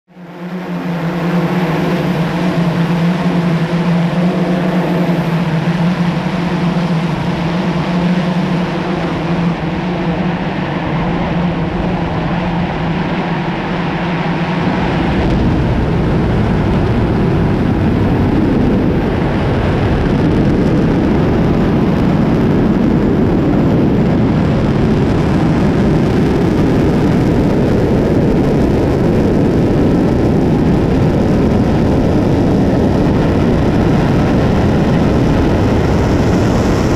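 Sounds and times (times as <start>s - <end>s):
drone propellers humming: 0.1s - 36.9s
rocket engine rumbling: 0.1s - 36.9s.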